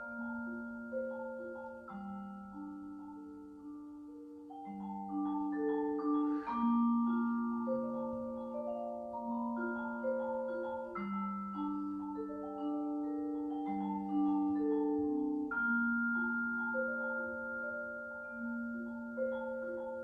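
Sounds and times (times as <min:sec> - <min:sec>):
vibraphone played with mallets: 0:00.0 - 0:20.0.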